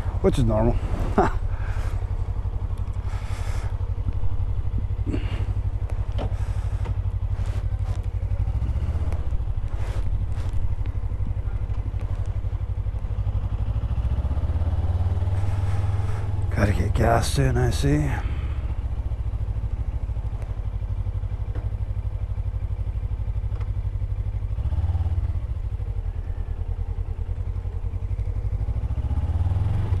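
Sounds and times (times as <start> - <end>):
motorcycle engine at low speed: 0.0 - 30.0.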